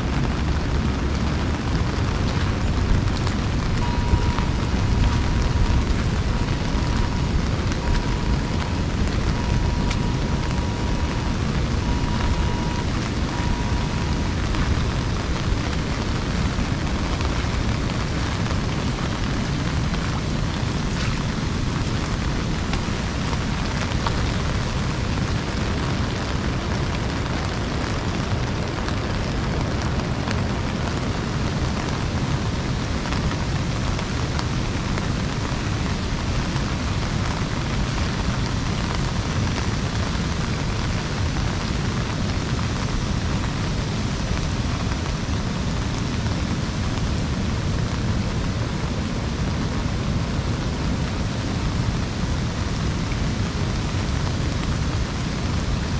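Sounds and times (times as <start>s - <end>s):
rain on an umbrella: 0.0s - 55.9s.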